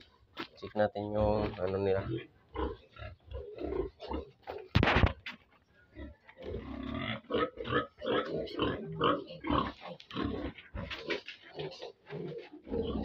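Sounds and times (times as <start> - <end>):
pigs grunting: 1.0 - 5.3, 5.9 - 13.0.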